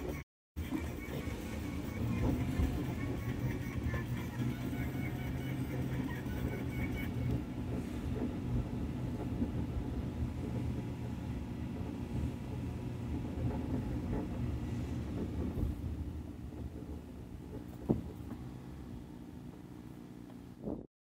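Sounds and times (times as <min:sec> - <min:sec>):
car engine and road rumble: 0:00.0 - 0:20.9.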